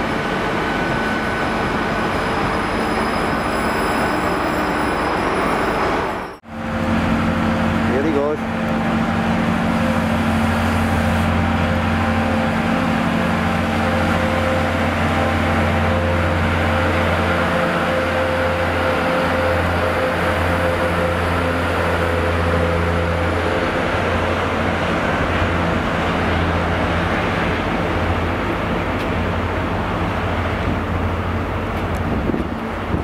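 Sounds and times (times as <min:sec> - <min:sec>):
train diesel engine drone: 0:00.0 - 0:33.0.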